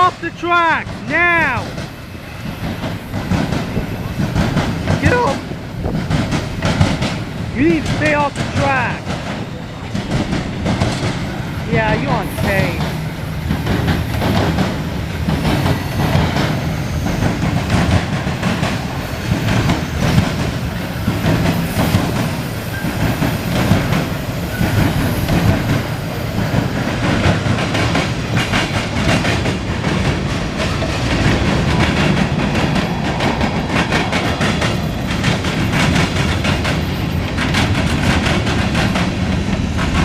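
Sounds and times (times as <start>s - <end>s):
freight train passing: 0.0s - 40.0s
wheels clacking over rail joints: 0.0s - 40.0s.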